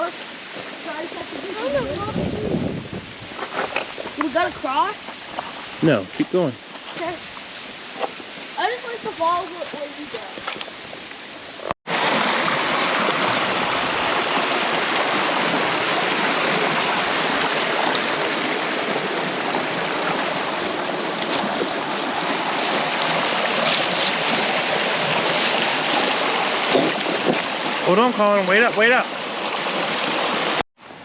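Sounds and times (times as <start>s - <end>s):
creek water running: 0.0s - 31.0s.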